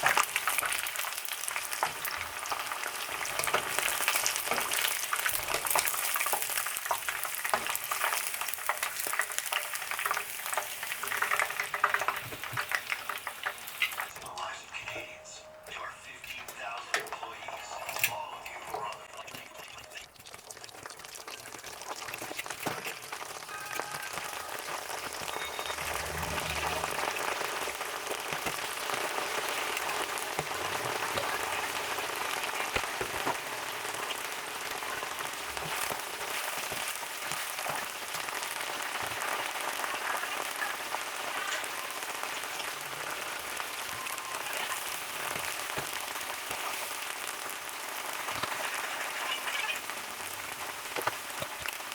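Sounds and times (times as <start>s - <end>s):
food sizzling in hot oil: 0.0s - 14.2s, 16.6s - 51.9s.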